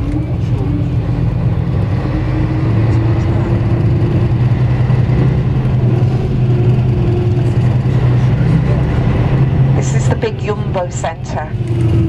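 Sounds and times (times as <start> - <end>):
coach engine drone: 0.0 - 12.0
road noise: 0.0 - 12.0.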